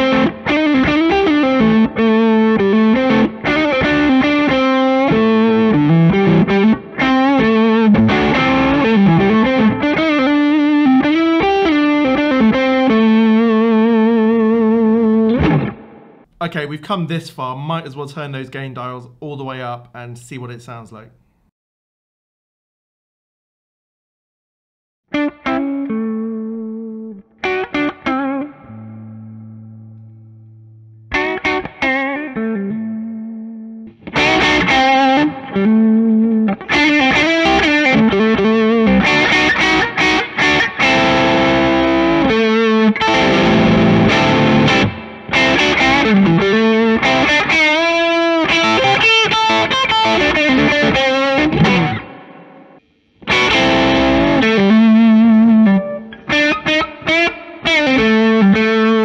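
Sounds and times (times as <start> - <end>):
distorted electric guitar rock riff: 0.0 - 16.3, 25.1 - 59.0.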